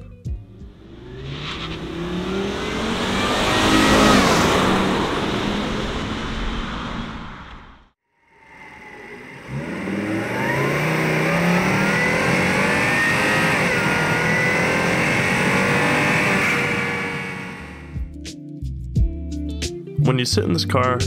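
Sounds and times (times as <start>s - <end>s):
car engine revving: 0.3s - 18.0s.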